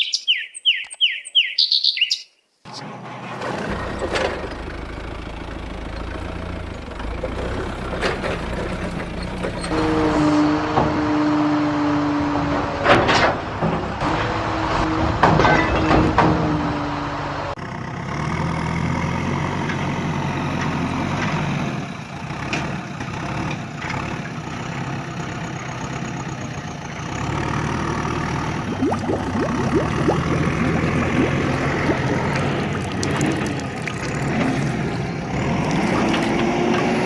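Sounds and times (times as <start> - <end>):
heavy vehicle engine running: 2.7 - 37.0.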